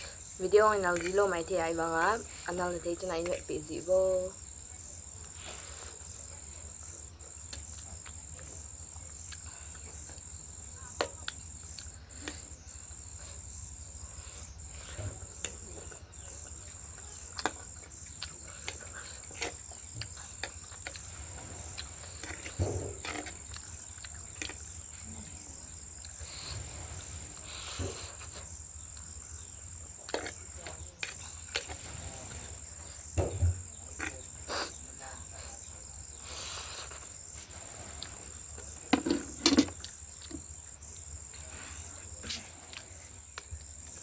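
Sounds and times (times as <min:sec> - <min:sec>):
cricket chorus: 0:00.0 - 0:44.0.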